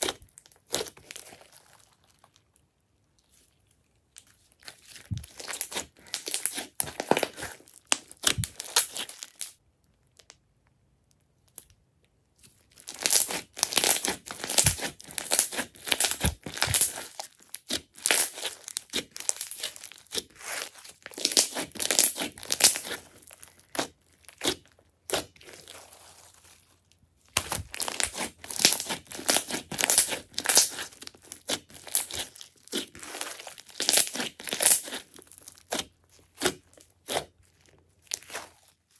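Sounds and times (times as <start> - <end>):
sticky slime crackling and popping: 0.0 - 38.9.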